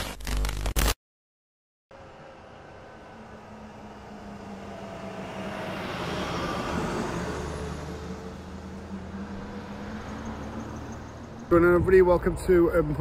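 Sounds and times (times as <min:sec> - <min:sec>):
low engine hum: 0:01.9 - 0:13.0
vehicle passing by: 0:02.0 - 0:13.0.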